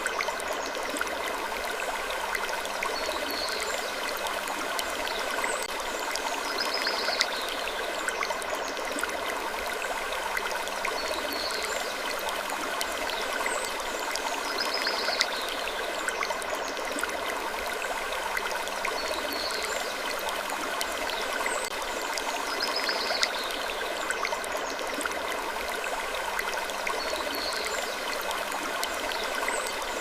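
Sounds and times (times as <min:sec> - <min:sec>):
flowing water: 0:00.0 - 0:30.0.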